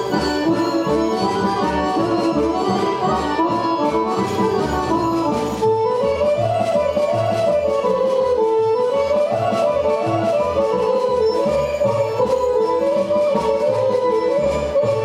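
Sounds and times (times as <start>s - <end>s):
folk music with accordion: 0.0s - 15.0s.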